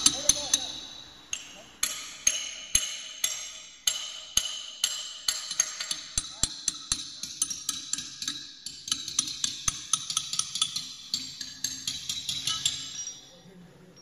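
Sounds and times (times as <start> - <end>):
hammer striking steel tubes: 0.0 - 13.2.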